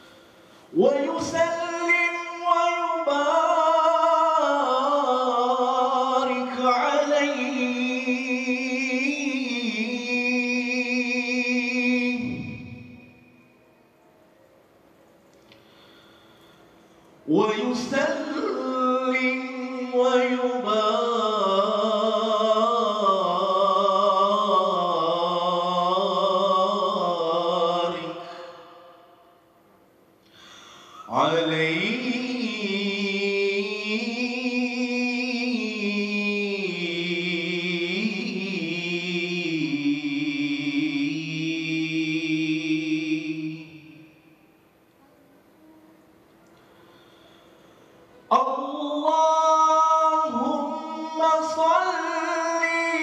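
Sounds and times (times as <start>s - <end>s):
man chanting: 0.7s - 13.4s, 17.2s - 29.1s, 31.0s - 44.2s, 48.3s - 53.0s.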